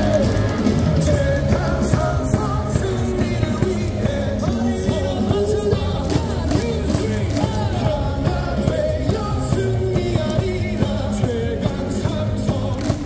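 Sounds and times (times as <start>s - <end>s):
cheer music over loudspeakers: 0.0s - 13.0s
crowd singing and yelling: 0.0s - 13.0s.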